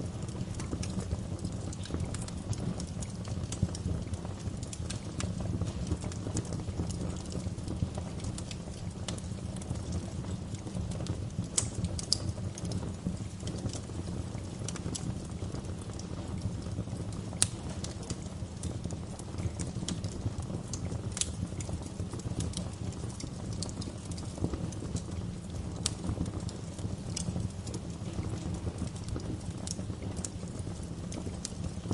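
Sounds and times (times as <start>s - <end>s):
fire popping and snapping: 0.0s - 31.9s
wood fire crackling: 0.0s - 31.9s.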